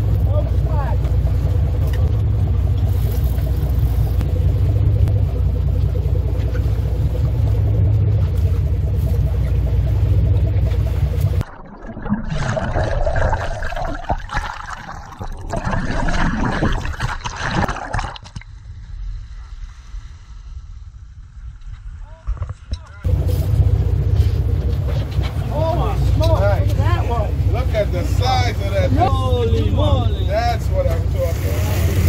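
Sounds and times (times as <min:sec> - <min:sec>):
boat engine rumbling: 0:00.0 - 0:18.8, 0:22.4 - 0:32.0.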